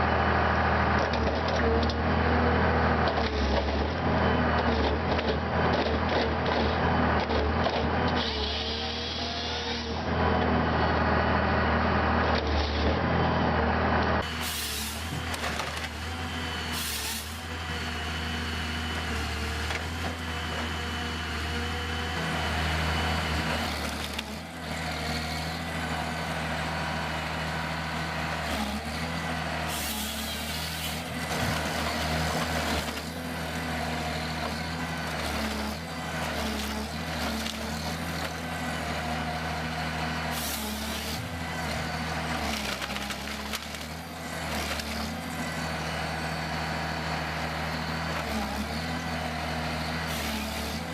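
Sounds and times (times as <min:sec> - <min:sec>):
heavy diesel machinery running: 0:00.0 - 0:50.9.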